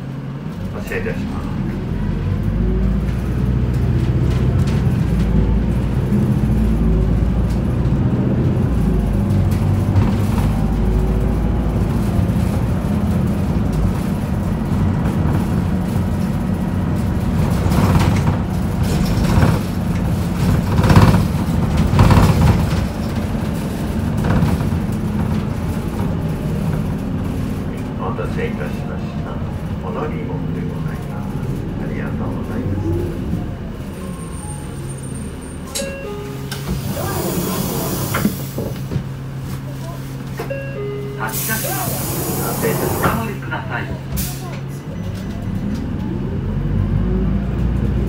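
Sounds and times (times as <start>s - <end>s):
bus diesel engine running: 0.0s - 48.0s
road rumble: 0.0s - 48.0s.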